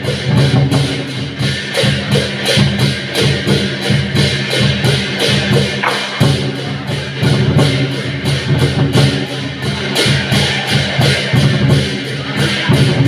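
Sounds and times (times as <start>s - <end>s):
drum gongs and cymbals beating: 0.0s - 13.0s.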